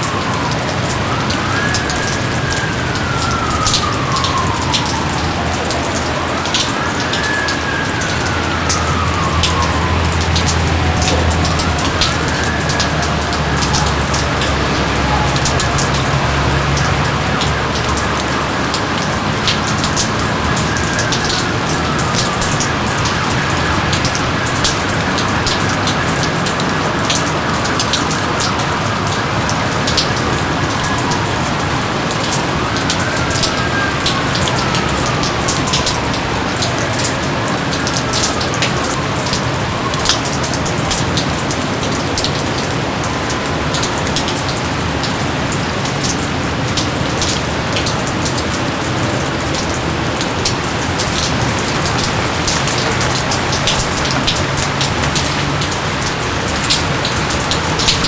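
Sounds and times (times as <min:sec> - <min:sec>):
close raindrop hits: 0:00.0 - 0:58.0
heavy rain: 0:00.0 - 0:58.0.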